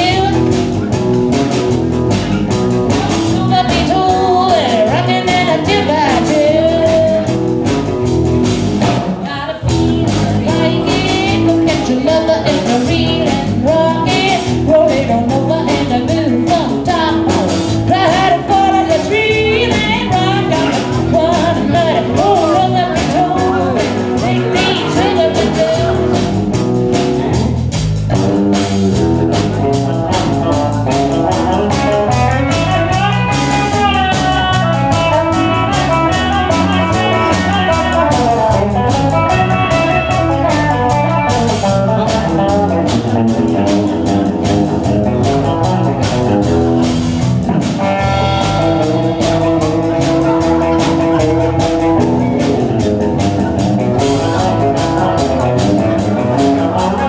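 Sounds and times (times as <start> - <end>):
bass: 0.0 - 57.0
drum kit beat: 0.0 - 57.0
electric guitar lines: 0.0 - 57.0.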